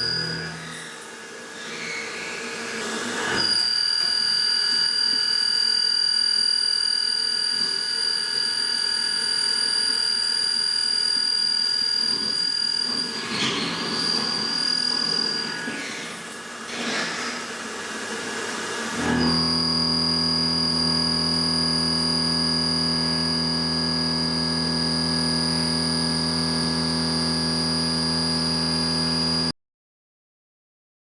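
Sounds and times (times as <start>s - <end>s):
metalworking machine whining: 0.0s - 29.5s.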